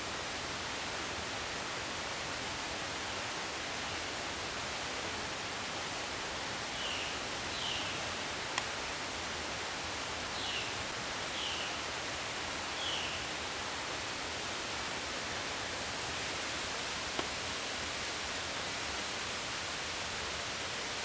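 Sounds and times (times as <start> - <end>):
rainforest ambience hiss: 0.0 - 21.0.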